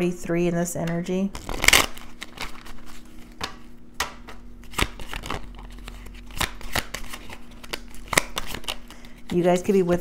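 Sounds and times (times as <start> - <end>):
cards clicking and slapping: 1.4 - 9.5.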